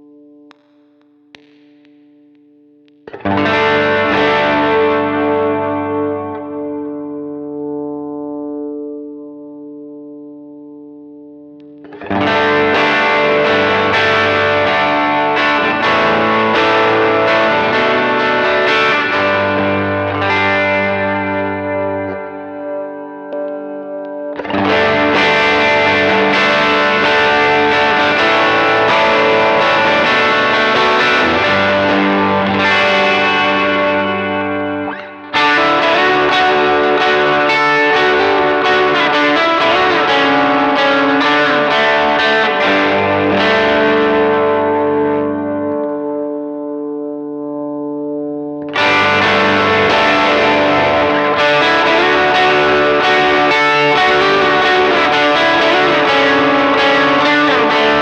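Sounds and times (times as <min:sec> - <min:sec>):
overdriven electric guitar chords: 0:00.0 - 0:58.0.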